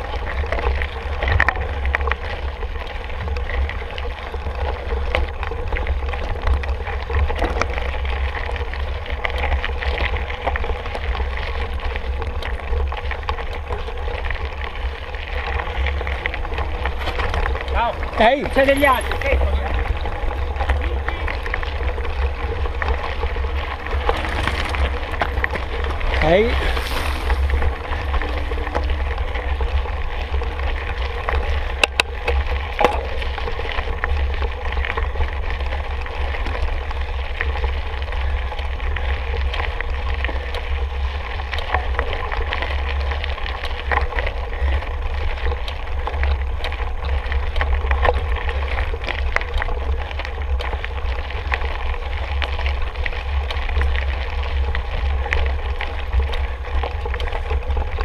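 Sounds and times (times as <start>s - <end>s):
bike clicks and rattles: 0.0s - 58.0s
wind rumbling on microphone: 0.0s - 58.0s.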